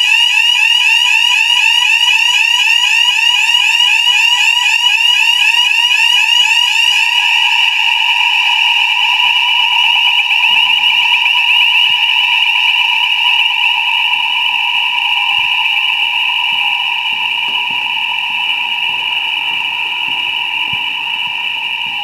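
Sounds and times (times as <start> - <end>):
fire alarm sweeping tone: 0.0 - 22.0.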